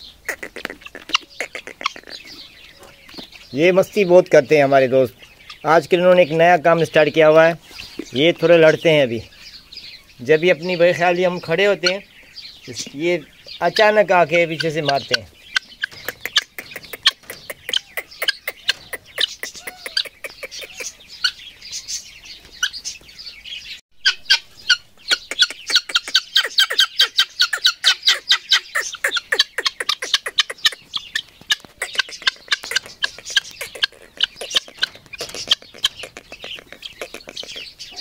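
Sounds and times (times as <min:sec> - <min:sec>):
guinea fowl calling: 0:00.0 - 0:06.7, 0:07.6 - 0:38.0.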